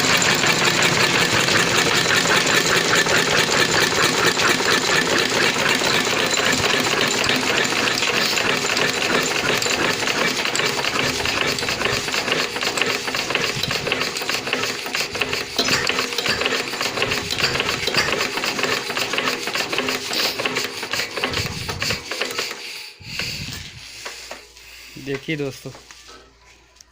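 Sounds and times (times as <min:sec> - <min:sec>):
diesel engine knocking: 0:00.0 - 0:22.0.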